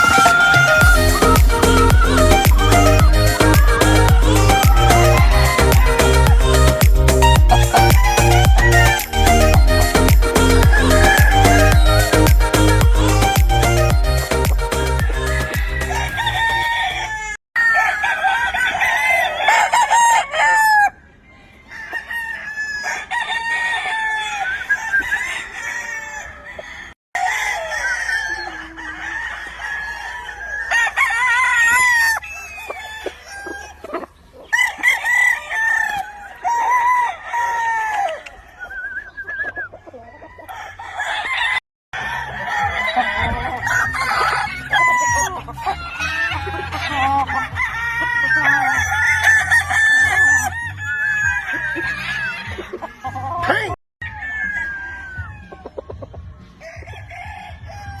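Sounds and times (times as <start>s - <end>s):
chickens clucking: 0.0s - 58.0s
roosters crowing: 0.0s - 58.0s.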